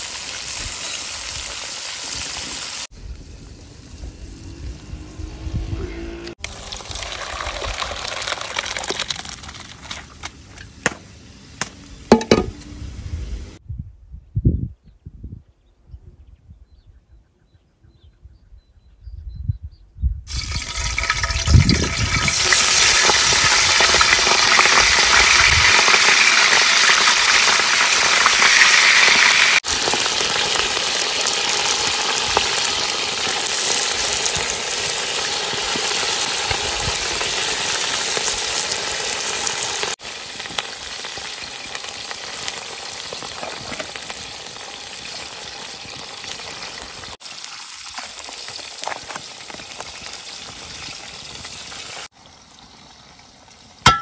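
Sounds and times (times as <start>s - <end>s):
hot pot sizzling: 0.0s - 5.4s, 6.1s - 13.6s, 20.3s - 54.0s.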